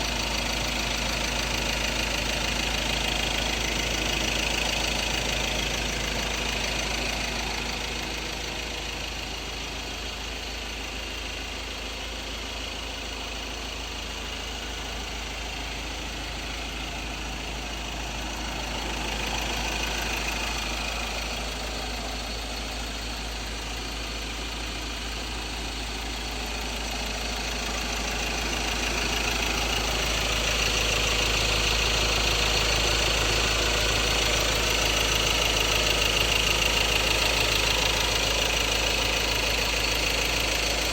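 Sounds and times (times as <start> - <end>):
diesel engine knocking rattle: 0.0 - 40.9.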